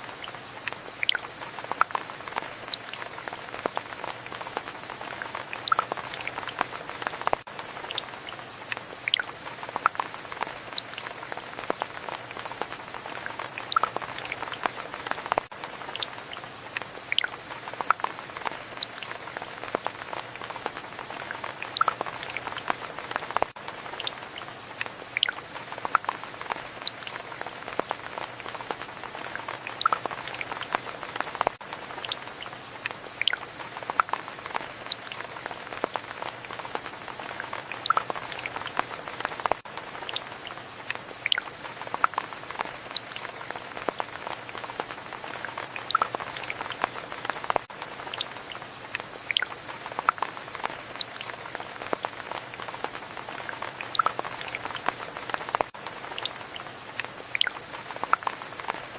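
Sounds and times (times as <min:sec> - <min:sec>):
rain drops pattering and dripping: 0:00.0 - 0:58.9.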